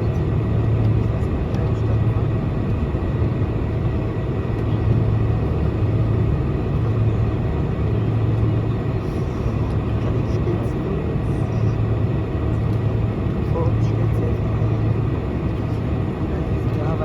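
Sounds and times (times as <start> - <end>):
airliner engines rumbling: 0.0 - 17.0
constant low hum: 0.0 - 17.0.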